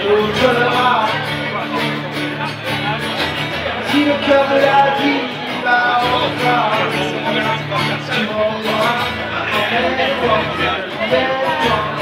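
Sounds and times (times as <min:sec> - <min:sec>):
man singing into microphone: 0:00.0 - 0:02.5, 0:03.5 - 0:12.0
acoustic guitar strumming: 0:00.0 - 0:12.0.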